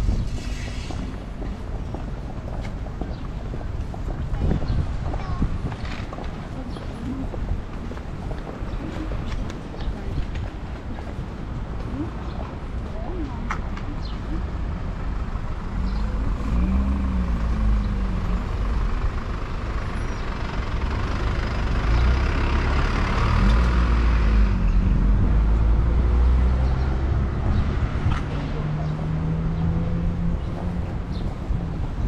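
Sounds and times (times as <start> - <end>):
low traffic rumble: 0.0 - 32.0
vehicle engines passing: 0.0 - 32.0.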